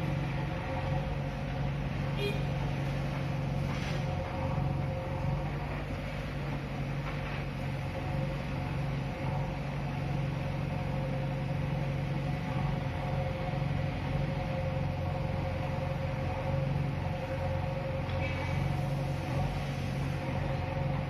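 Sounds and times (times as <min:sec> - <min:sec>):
diesel engines droning: 0:00.0 - 0:21.0.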